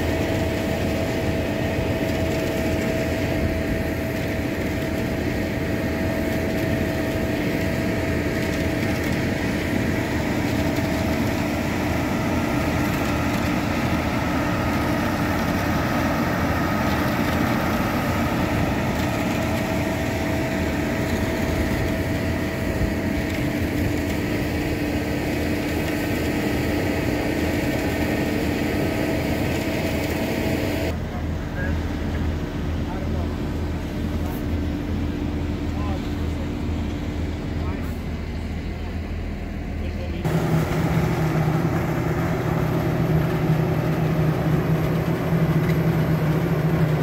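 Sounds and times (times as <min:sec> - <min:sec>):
diesel machinery engine drone: 0:00.0 - 0:47.0.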